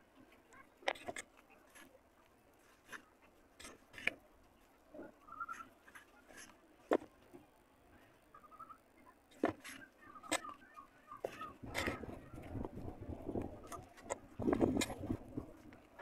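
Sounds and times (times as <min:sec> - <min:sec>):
clay crunching and crackling: 0:00.0 - 0:16.0.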